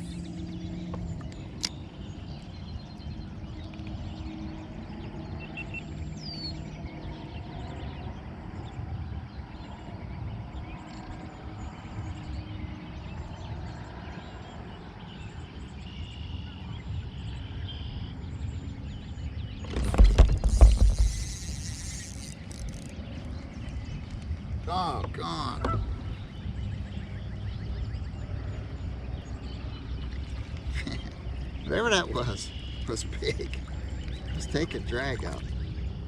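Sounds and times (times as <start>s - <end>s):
wind rumble on microphone: 0.0s - 36.0s.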